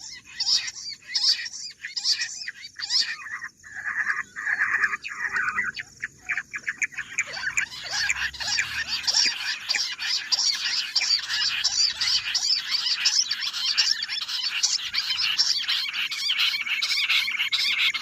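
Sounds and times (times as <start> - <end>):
quail chirping call: 0.0 - 18.0.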